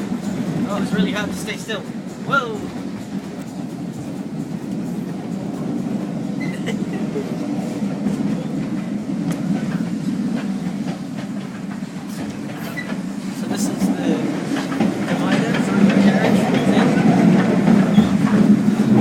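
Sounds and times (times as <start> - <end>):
train rumbling: 0.0 - 19.0
wheels clicking on track: 0.0 - 19.0.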